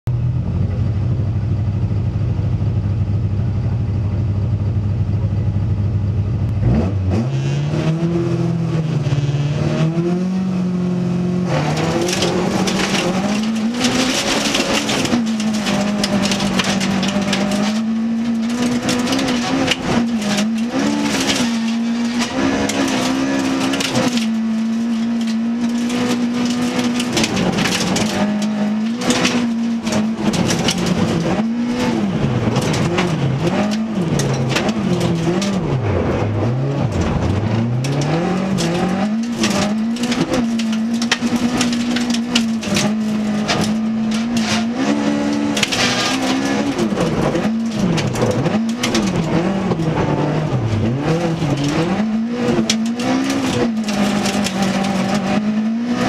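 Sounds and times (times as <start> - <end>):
car engine idling and revving: 0.0 - 56.0
tyres on gravel: 6.6 - 56.0.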